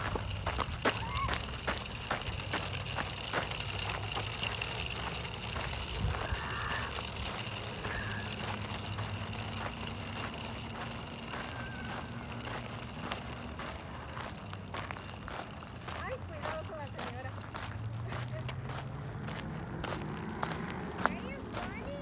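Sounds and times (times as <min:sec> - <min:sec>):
footsteps on gravel trail: 0:00.0 - 0:22.0.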